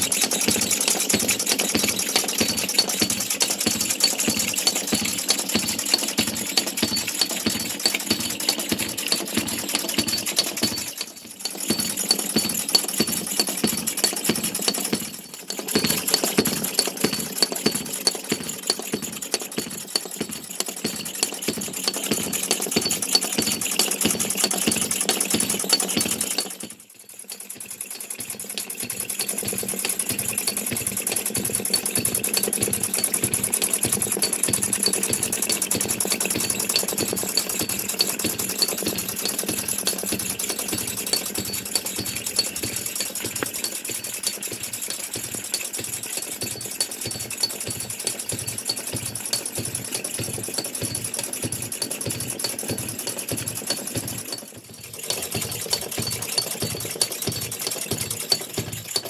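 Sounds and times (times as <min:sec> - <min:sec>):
model steam engines clattering: 0:00.0 - 0:59.0.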